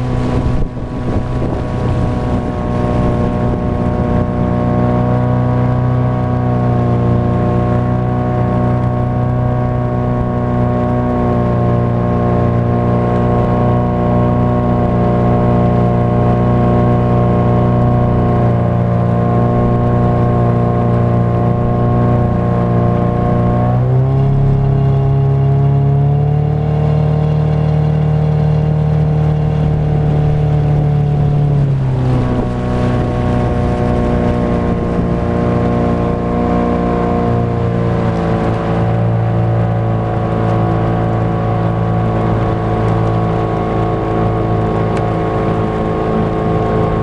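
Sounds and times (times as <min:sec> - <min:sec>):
motorboat engine running: 0:00.0 - 0:47.0.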